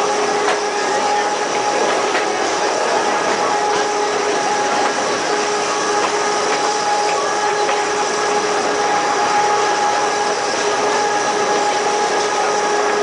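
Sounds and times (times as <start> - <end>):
electric train running: 0.0 - 13.0
steady train whine: 0.0 - 13.0.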